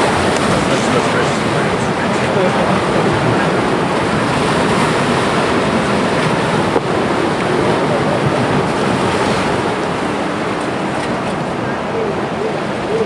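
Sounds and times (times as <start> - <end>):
waves washing against shore: 0.0 - 13.0
wind buffeting microphone: 0.0 - 13.0.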